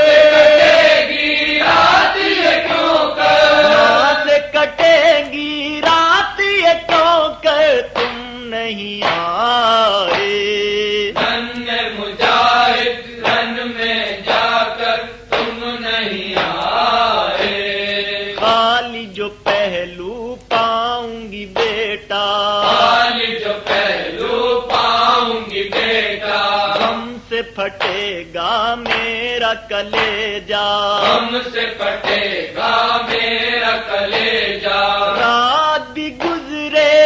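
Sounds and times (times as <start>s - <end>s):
voices chanting a lament: 0.0s - 37.0s.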